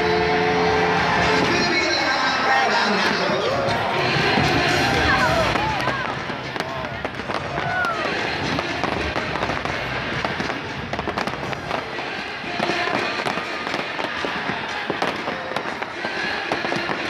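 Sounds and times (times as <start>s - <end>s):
continuous fireworks rumble: 2.9s - 17.0s
fireworks bangs and pops: 2.9s - 17.0s.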